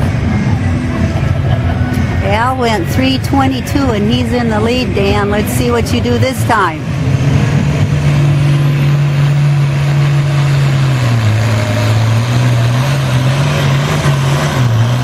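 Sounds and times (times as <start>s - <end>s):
tractor diesel engine droning: 0.0s - 15.0s.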